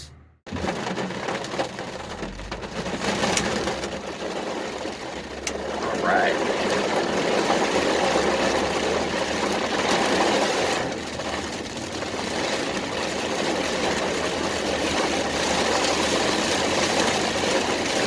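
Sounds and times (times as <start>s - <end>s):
car engine running: 0.0s - 18.0s
rain and wet tyres: 0.0s - 18.0s.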